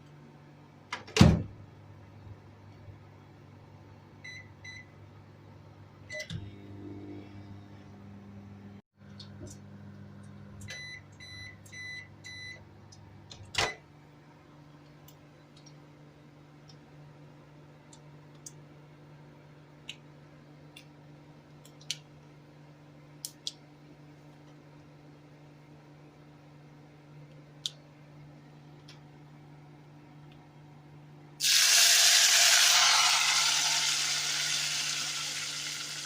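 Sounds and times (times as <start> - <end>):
microwave oven humming: 0.0 - 36.0.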